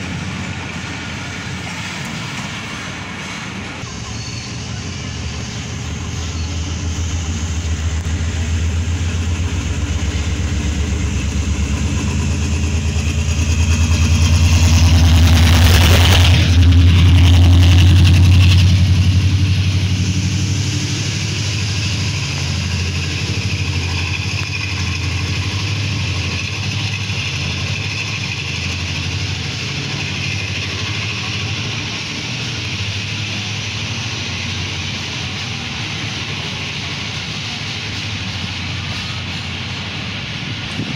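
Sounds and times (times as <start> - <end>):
diesel locomotive engine drone: 0.0 - 40.9
rush of noise: 0.0 - 40.9.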